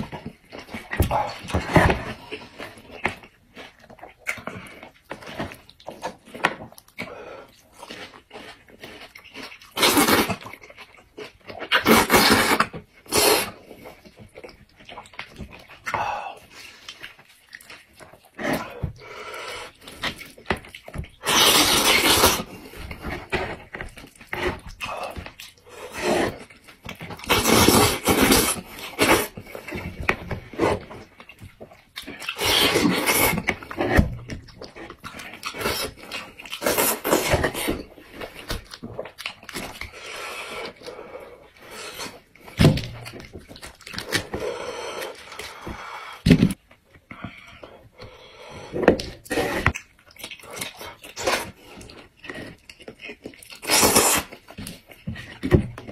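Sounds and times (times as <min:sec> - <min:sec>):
sucking and chewing: 0:00.0 - 0:55.9.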